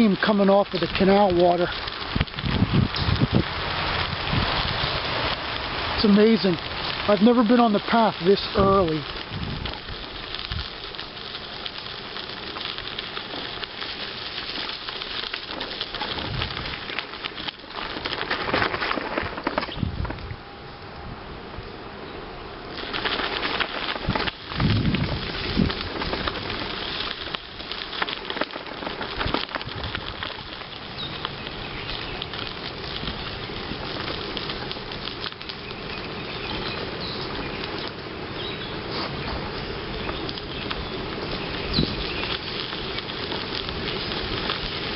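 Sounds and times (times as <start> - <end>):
bicycle tyres rolling on gravel: 0.0 - 44.9.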